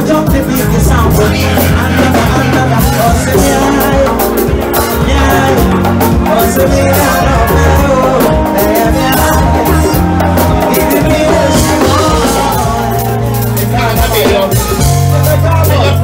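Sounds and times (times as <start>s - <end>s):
person singing: 0.0s - 15.1s
bass guitar: 0.0s - 16.0s
drums: 0.0s - 16.0s
electric guitar: 0.0s - 16.0s.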